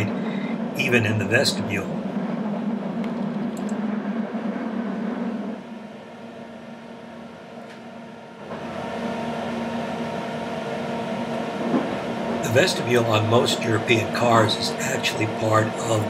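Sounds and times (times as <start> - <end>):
train running hum and rumble: 0.0 - 16.0.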